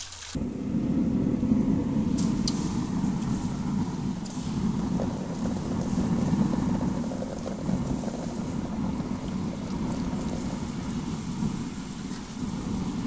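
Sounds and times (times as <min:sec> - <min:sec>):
steady low rumble: 0:00.4 - 0:13.0.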